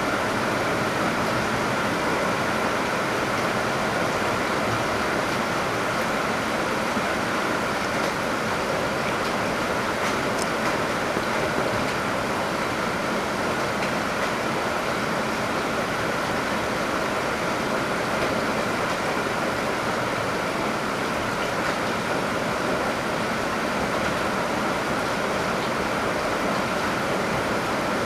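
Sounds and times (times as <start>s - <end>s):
heavy rain: 0.0s - 28.0s
water pouring from downpipe: 0.0s - 28.0s.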